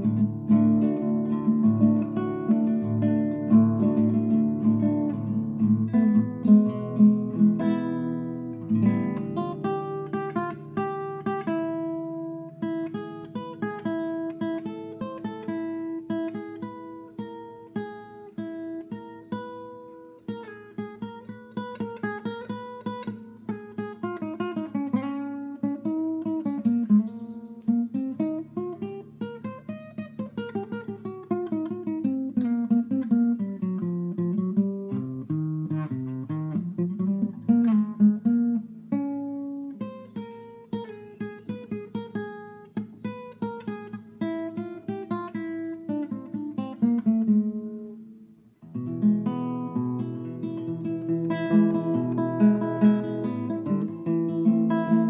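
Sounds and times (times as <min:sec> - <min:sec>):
fingerstyle classical guitar: 0:00.0 - 0:55.0.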